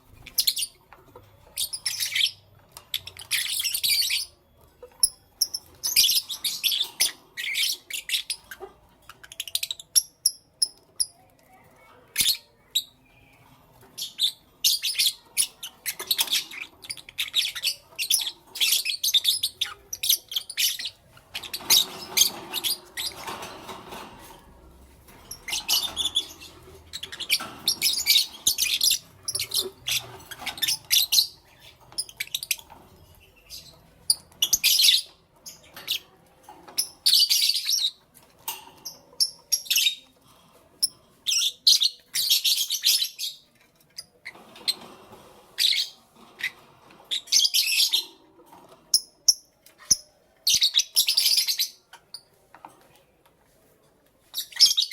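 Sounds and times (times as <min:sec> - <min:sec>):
lovebirds chirping: 0:00.0 - 0:52.4.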